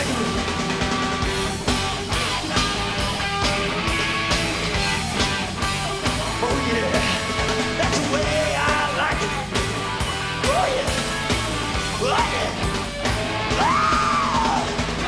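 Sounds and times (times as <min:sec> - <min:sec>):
punk rock band playing: 0:00.0 - 0:15.0
yelled vocals: 0:00.0 - 0:15.0.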